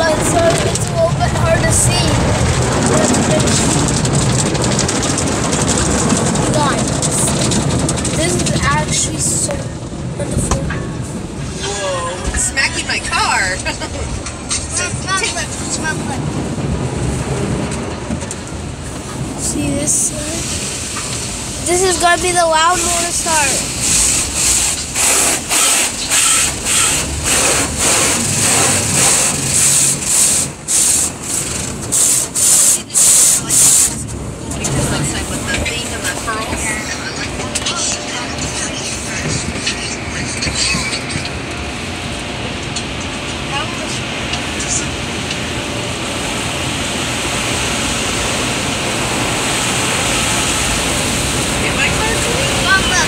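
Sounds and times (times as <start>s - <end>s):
low motor rumble: 0.0s - 25.0s, 26.0s - 53.0s
car wash rhythmic swishing hiss: 6.1s - 17.9s, 18.5s - 53.0s.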